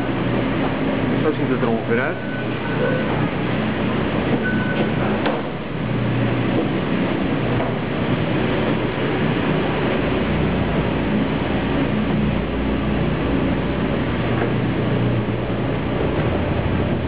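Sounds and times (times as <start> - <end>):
low machinery drone: 0.0 - 17.0
metro station rumbling hum: 0.0 - 17.0.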